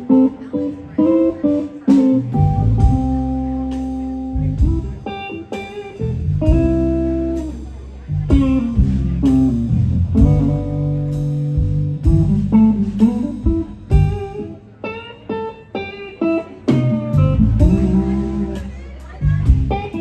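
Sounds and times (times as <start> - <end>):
bass: 0.0 - 20.0
electric guitar playing lead: 0.0 - 20.0.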